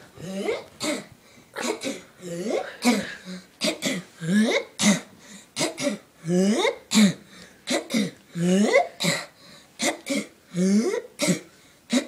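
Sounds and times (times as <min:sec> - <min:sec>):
person coughing rhythmically: 0:00.2 - 0:12.0.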